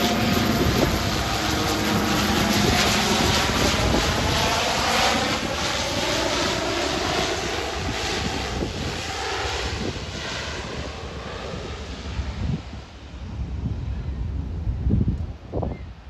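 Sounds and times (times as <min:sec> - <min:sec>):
propeller plane droning past: 0:00.0 - 0:15.4
wind rumble on microphone: 0:00.0 - 0:16.0.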